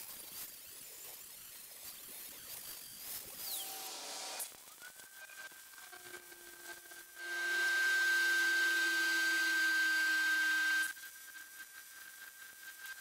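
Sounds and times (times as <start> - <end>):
welder arc crackling and hissing: 0.0 - 13.0.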